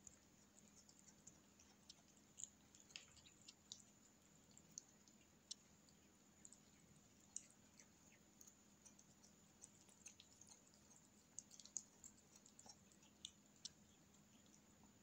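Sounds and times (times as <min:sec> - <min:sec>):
kittens chewing grass: 0:00.0 - 0:15.0.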